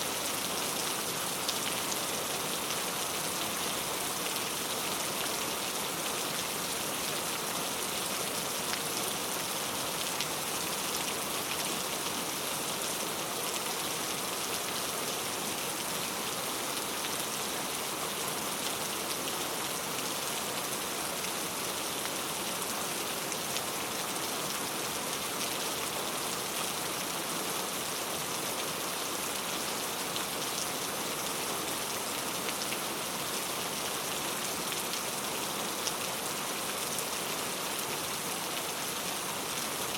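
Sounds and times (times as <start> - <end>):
steady rain on hard surfaces: 0.0 - 39.9.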